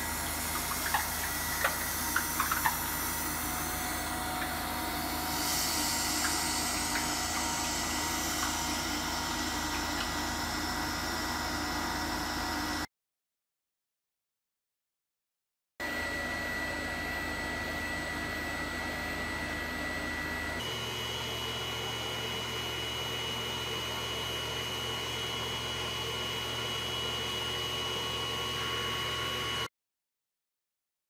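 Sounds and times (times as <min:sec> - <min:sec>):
vacuum pump running: 0:00.0 - 0:12.9, 0:15.8 - 0:29.7.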